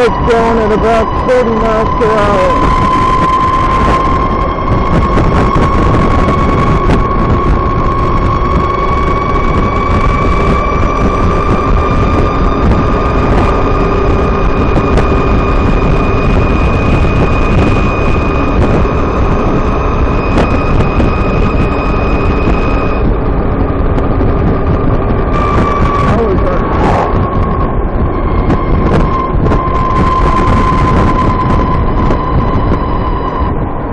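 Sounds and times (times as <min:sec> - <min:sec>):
motorcycle high whine: 0:00.0 - 0:33.9
wind and road noise: 0:00.0 - 0:33.9.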